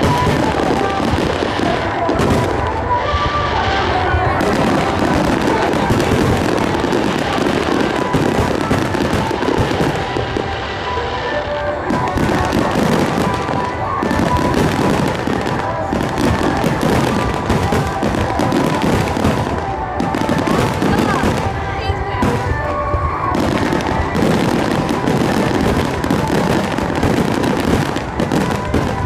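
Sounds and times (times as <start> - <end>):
fireworks bursting: 0.0 - 29.0
music: 0.0 - 29.0.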